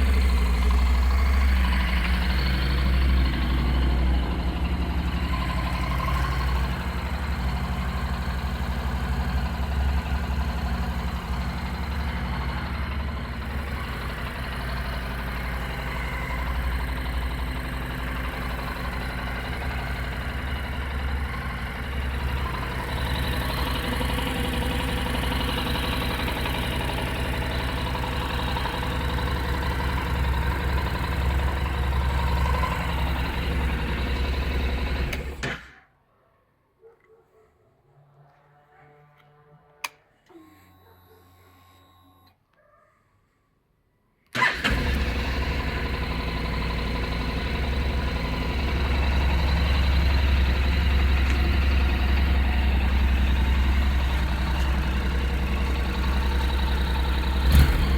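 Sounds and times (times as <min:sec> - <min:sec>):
motorcycle engine idling: 0:00.0 - 0:35.4, 0:44.4 - 0:57.9.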